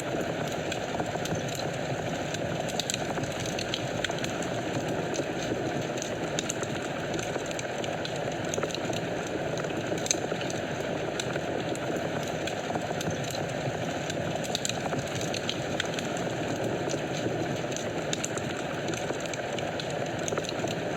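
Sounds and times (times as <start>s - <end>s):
fire crackling and popping: 0.0s - 20.9s.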